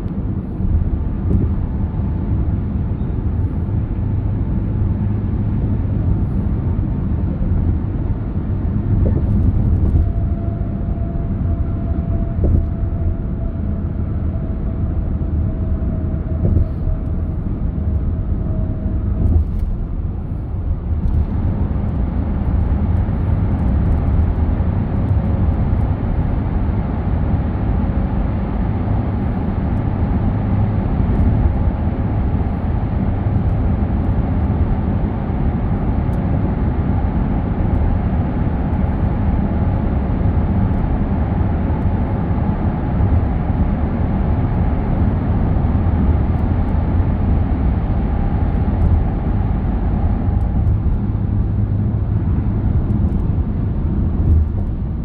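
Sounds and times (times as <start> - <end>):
car engine and tyres drone: 0.0 - 55.0.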